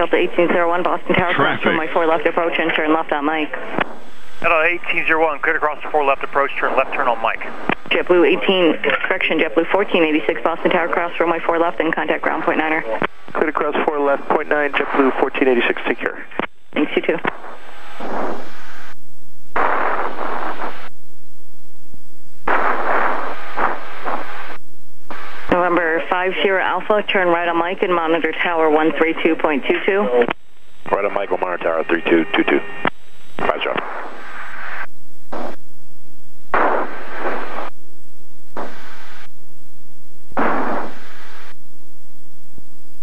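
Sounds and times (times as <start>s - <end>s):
radio static hiss: 0.0s - 21.0s, 22.3s - 35.7s, 36.4s - 37.8s, 38.4s - 41.8s.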